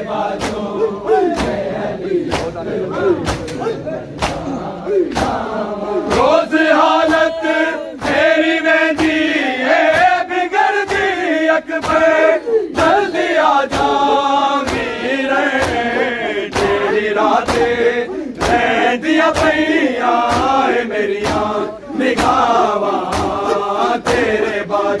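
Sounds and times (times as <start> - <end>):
crowd of men chanting: 0.0 - 25.0
hand slaps on bare chests: 0.3 - 2.6, 3.2 - 24.7.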